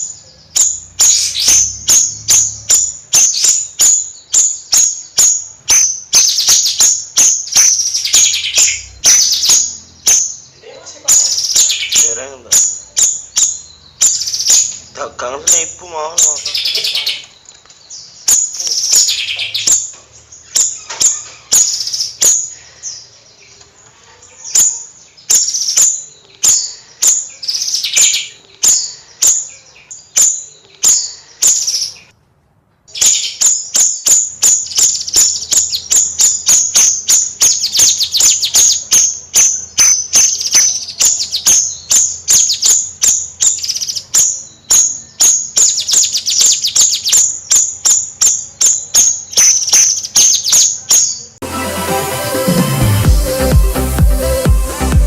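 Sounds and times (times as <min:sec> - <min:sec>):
songbird chattering song: 0:00.0 - 0:32.2, 0:32.9 - 0:51.4.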